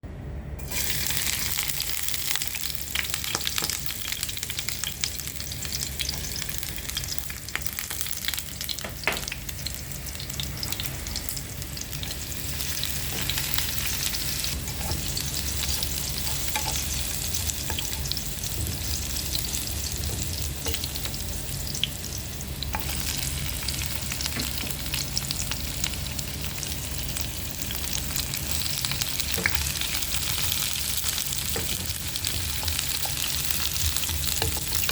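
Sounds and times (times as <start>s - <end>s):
steady low hum: 0.0s - 34.9s
food sizzling in hot oil: 0.6s - 34.9s.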